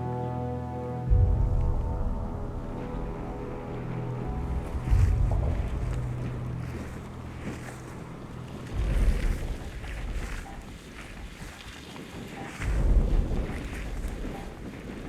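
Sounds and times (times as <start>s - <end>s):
wind buffeting microphone: 1.1s - 15.0s.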